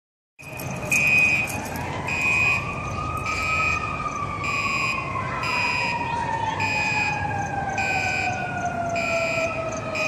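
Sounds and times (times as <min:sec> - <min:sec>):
fire engine siren wailing: 0:00.4 - 0:10.0
high pulsing alarm tone: 0:00.4 - 0:10.0.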